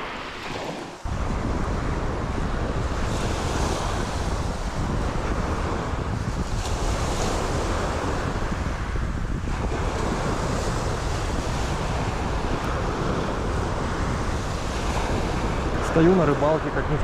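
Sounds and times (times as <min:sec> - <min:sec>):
surf rolling onto shore: 0:00.0 - 0:17.0
wind buffeting microphone: 0:00.0 - 0:17.0.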